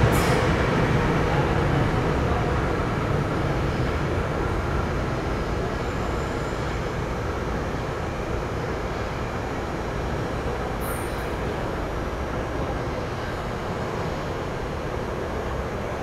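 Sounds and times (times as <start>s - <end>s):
electric train rumbling in tunnel: 0.0s - 16.0s.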